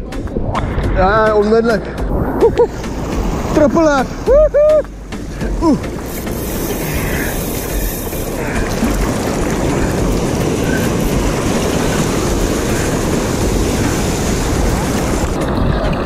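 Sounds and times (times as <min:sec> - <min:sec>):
low rumble of water and wind: 0:00.0 - 0:16.0
surf water splashing: 0:00.0 - 0:16.0.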